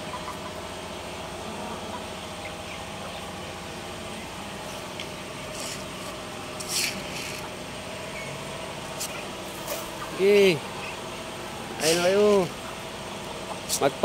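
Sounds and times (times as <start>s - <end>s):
chickens and ducks feeding: 0.0s - 14.0s
steady engine-like hum: 0.0s - 14.0s.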